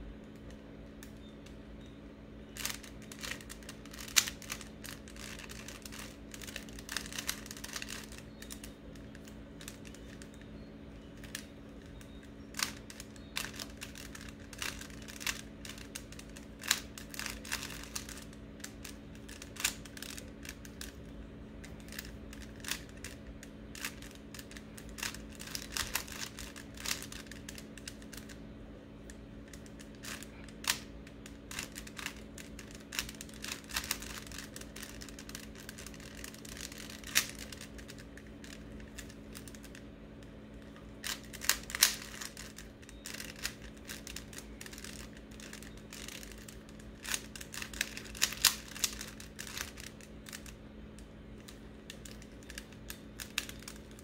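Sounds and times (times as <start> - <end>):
puzzle cube plastic clicking: 2.5 - 54.0.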